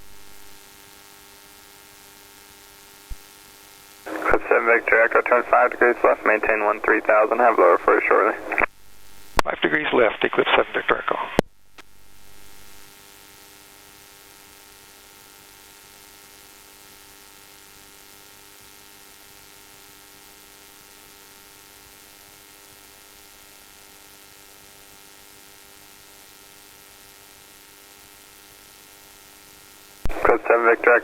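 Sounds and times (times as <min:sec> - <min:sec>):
radio electrical hum and hiss: 0:00.0 - 0:31.0.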